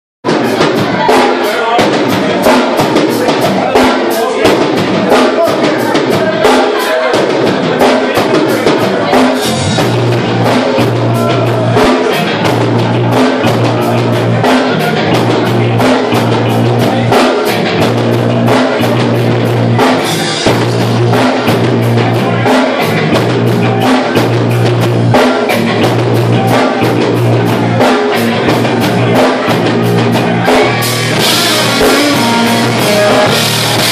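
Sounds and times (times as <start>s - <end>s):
drum kit fast beat: 0.2s - 33.9s
rock band playing live: 0.2s - 33.9s.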